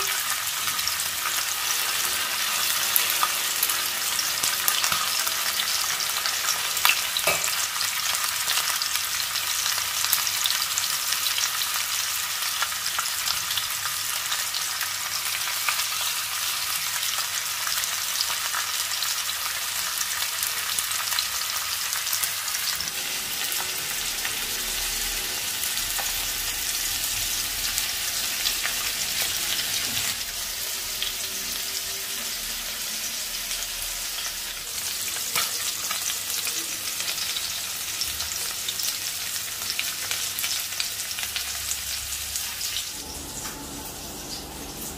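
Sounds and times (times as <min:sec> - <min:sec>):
fish sizzling in hot oil: 0:00.0 - 0:44.9.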